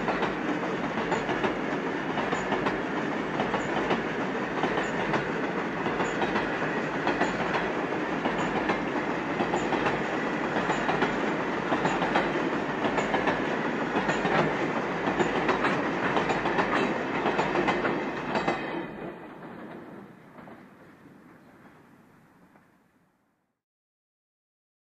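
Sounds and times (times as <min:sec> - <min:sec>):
train wagons clacking over rail joints: 0:00.0 - 0:21.7.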